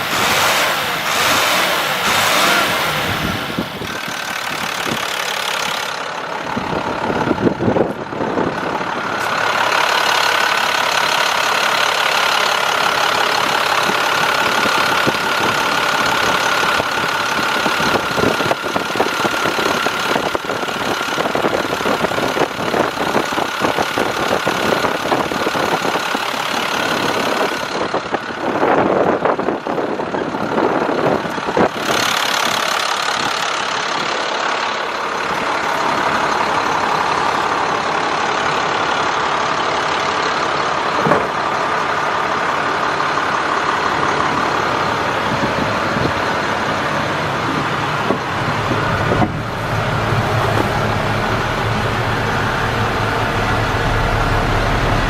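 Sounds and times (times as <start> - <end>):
truck diesel engine running: 0.0 - 55.0.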